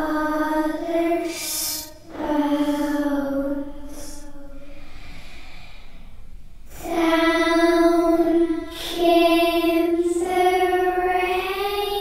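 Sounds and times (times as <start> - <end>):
girl singing sustained notes: 0.0 - 5.9, 6.7 - 12.0.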